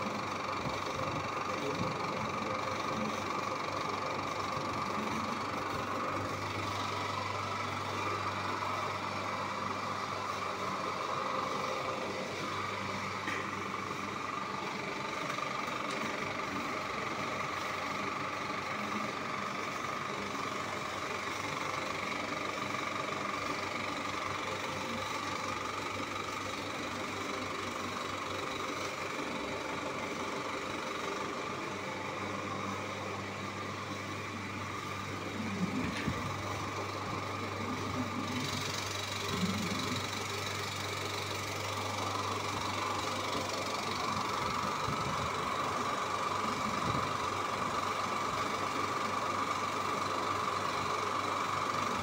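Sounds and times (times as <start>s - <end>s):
film projector whirring: 0.0s - 52.0s.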